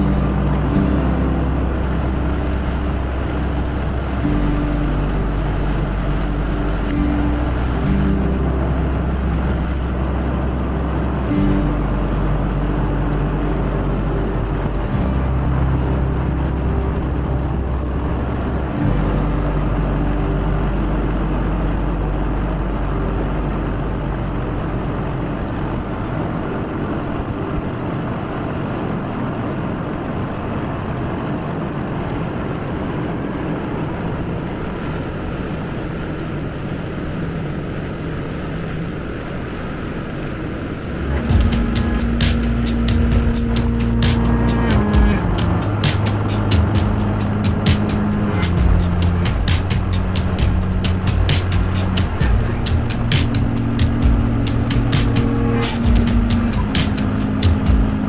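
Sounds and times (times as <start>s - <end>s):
boat motor running: 0.0s - 58.0s
low steady hum: 0.0s - 58.0s
water and wind hiss: 0.0s - 58.0s.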